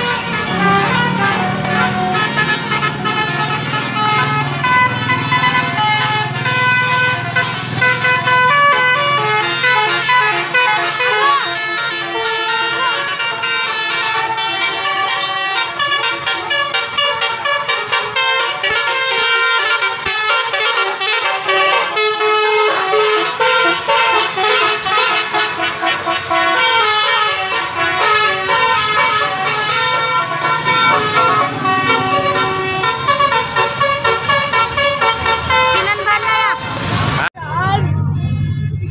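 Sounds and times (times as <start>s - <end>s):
multi-trumpet bus horn melody: 0.0s - 37.3s
bus engine rumbling: 0.0s - 38.9s.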